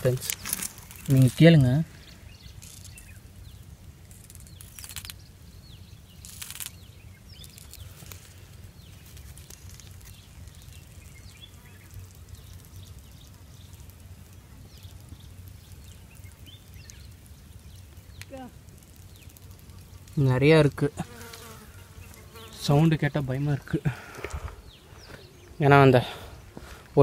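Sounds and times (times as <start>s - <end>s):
termites drumming rattles: 0.0s - 5.3s, 6.1s - 26.2s
birds chirping: 0.0s - 27.0s.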